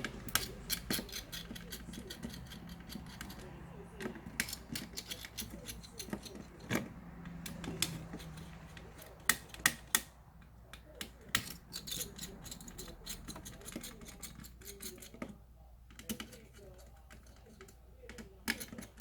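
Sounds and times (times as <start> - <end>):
tools and parts clicking: 0.0 - 19.0.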